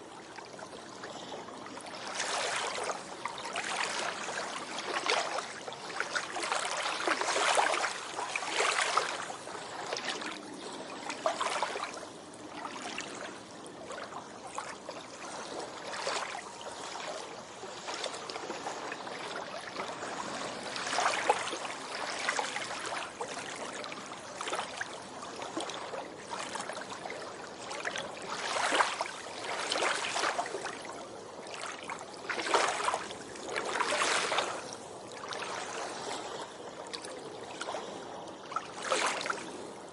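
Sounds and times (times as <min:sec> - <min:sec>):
small waves washing on beach: 0:00.0 - 0:39.9.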